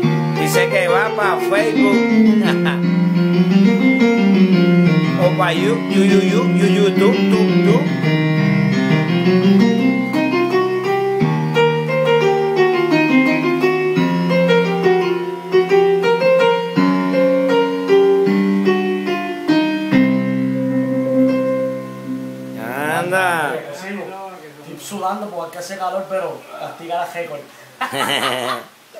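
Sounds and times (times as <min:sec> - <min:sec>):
electronic keyboard piano: 0:00.0 - 0:23.8.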